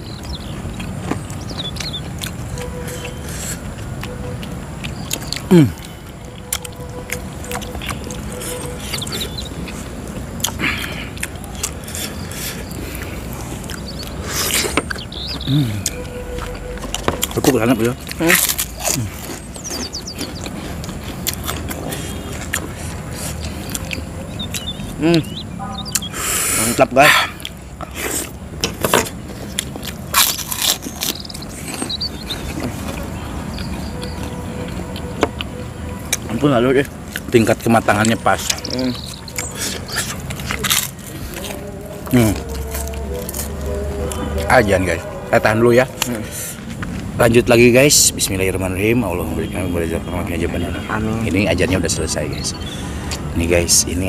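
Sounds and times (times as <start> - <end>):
person chewing food: 0.0 - 26.7, 27.3 - 47.2.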